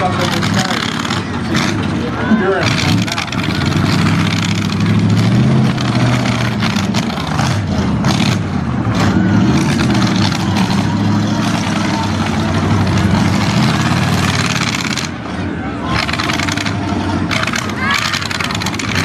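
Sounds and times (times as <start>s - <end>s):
truck engines revving hard: 0.0s - 19.0s
trucks colliding: 0.0s - 19.0s.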